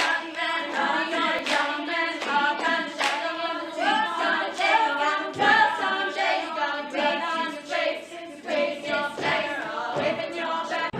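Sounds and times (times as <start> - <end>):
choir singing in harmony: 0.0 - 10.9.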